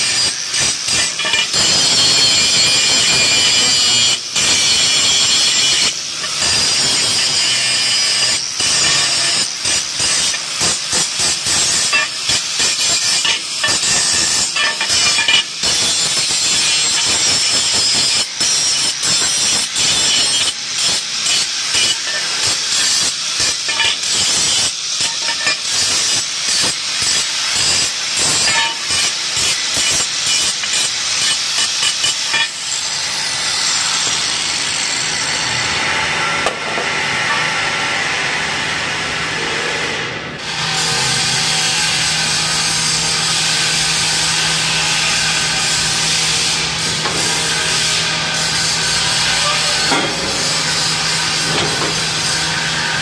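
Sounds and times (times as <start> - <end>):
angle grinder shrieking on steel: 0.0 - 36.4, 40.4 - 53.0.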